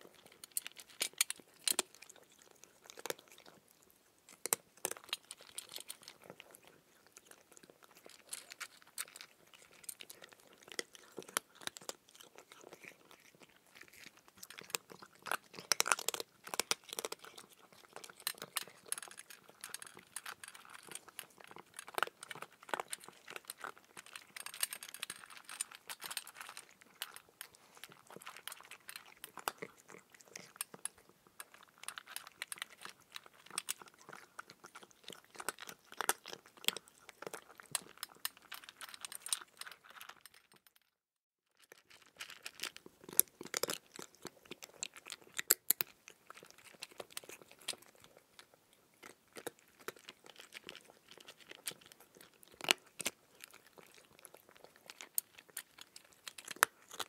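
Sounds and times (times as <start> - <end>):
person chewing crisp cucumber: 0.0 - 40.7, 41.6 - 57.0.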